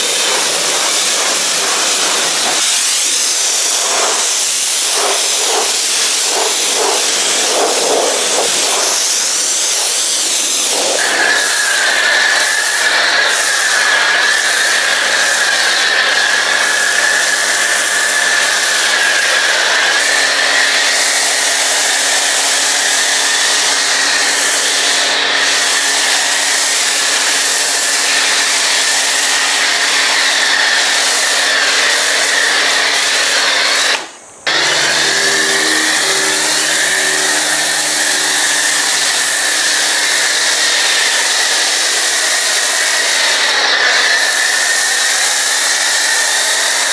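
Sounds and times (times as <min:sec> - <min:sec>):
pressure washer spraying: 0:00.0 - 0:46.9.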